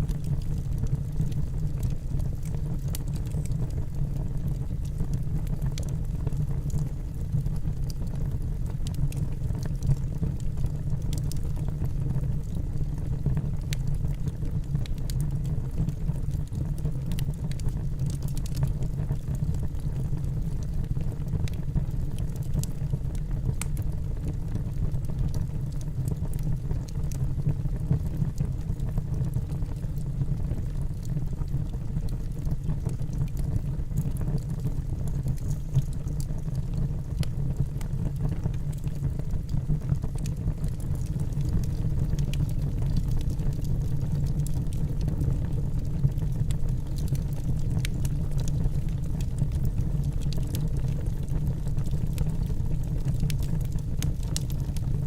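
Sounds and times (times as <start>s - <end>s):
fire flames rumbling: 0.0s - 55.0s
logs crackling and popping: 0.0s - 55.0s.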